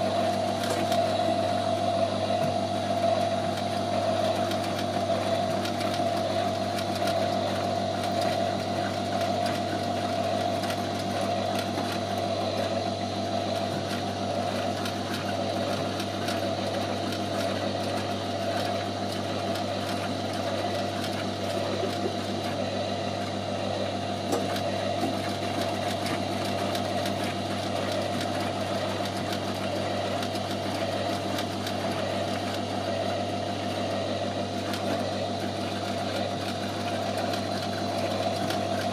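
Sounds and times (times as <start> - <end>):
low motor hum: 0.0 - 38.9.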